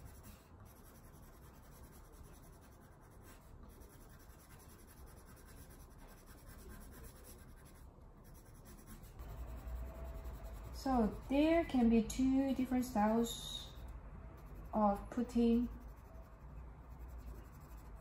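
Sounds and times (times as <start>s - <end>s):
pencil scratching on paper: 0.0s - 18.0s.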